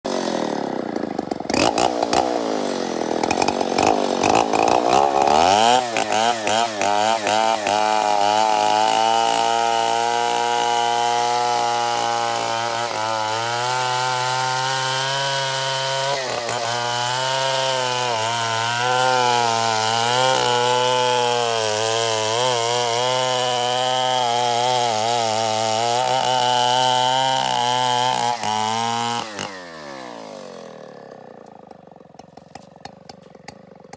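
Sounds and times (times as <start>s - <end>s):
chainsaw sawing wood: 0.0s - 33.9s.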